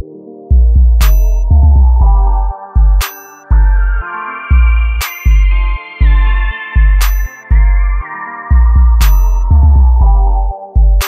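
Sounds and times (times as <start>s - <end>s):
bass and synth music: 0.0s - 11.0s.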